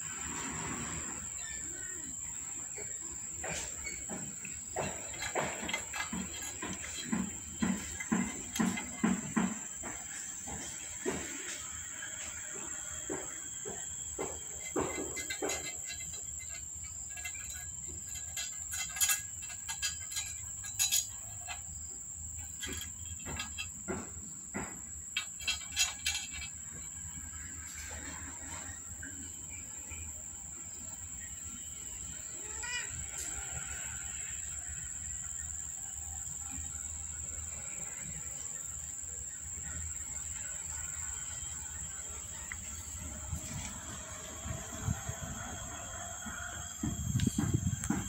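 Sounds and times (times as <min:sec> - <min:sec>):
insect chirring: 0:00.1 - 0:48.0.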